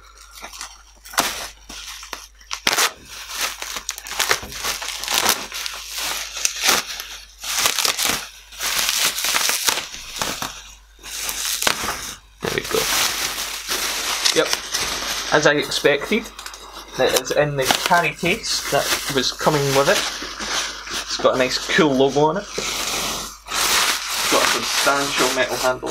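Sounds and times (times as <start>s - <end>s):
bubble wrap crinkling: 0.0s - 25.9s.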